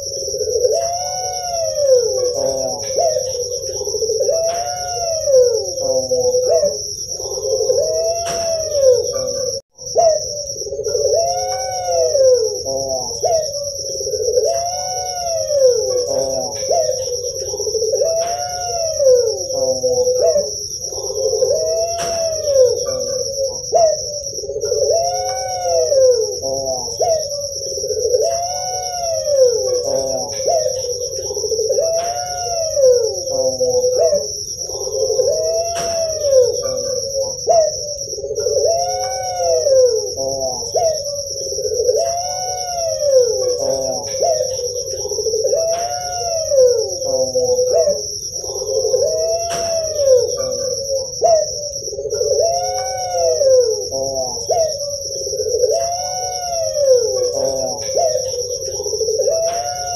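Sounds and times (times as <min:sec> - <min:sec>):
dove cooing: 0:00.0 - 0:59.9
high-pitched whine: 0:00.0 - 0:59.9.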